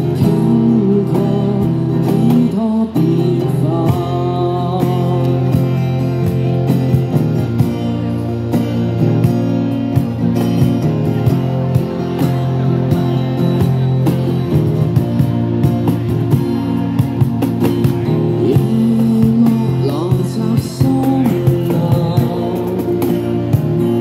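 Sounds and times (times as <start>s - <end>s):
strummed acoustic guitar: 0.0s - 24.0s
sustained backing music: 0.0s - 24.0s.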